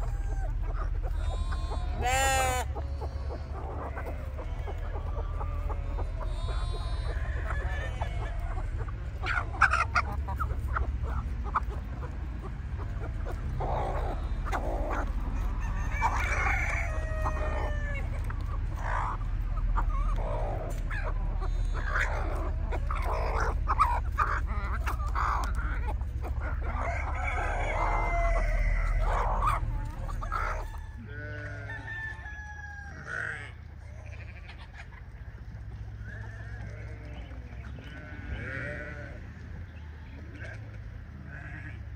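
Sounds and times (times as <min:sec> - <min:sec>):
hens clucking: 0:00.0 - 0:41.9
roosters crowing: 0:00.0 - 0:41.9.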